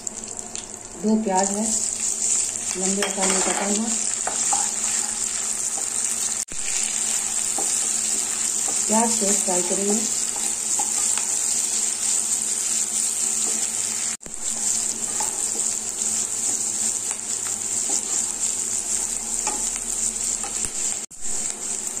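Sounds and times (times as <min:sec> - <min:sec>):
onions sizzling in hot fat: 0:00.0 - 0:22.0.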